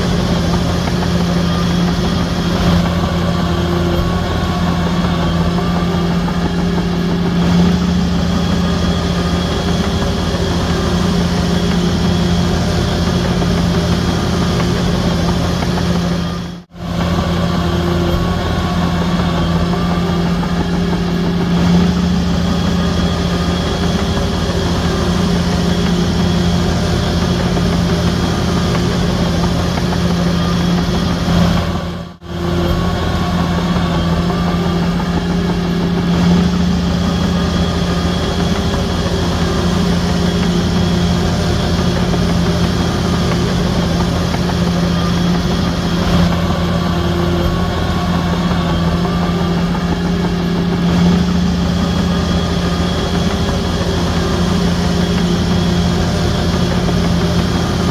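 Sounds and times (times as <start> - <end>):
heavy machinery diesel engines: 0.0 - 57.9.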